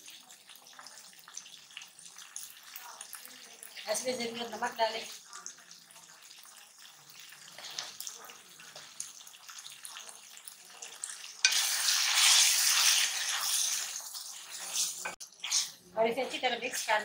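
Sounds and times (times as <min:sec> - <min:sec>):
food sizzling in a pan: 0:00.0 - 0:17.0
wooden spatula stirring a pan: 0:00.0 - 0:17.0.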